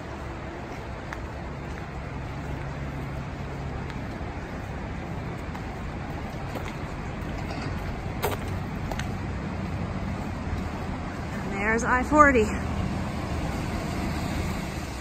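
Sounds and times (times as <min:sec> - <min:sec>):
highway traffic drone: 0:00.0 - 0:15.0.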